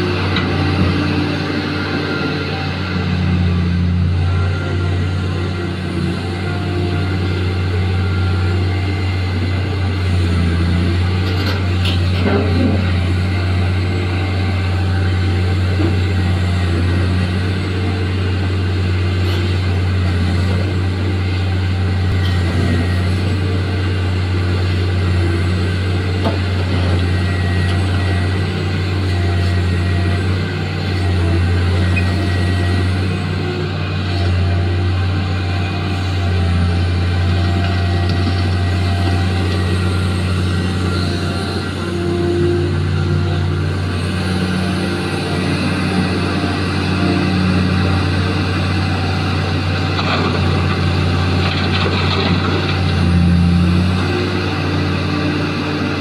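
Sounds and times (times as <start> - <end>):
excavator diesel engine droning: 0.0 - 56.0.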